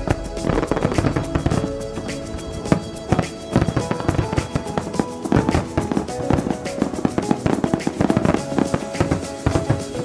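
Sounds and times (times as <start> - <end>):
fireworks banging: 0.0 - 10.0
music playing: 0.0 - 10.0.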